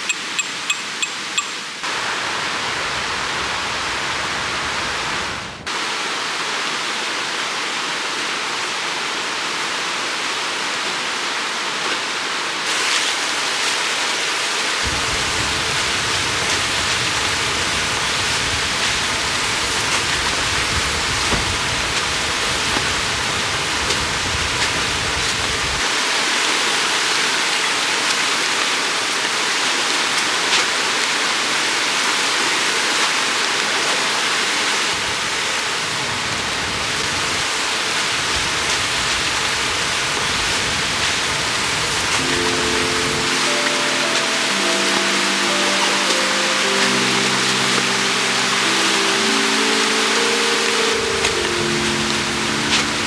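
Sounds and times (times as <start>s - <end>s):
river water rushing: 0.4s - 53.0s.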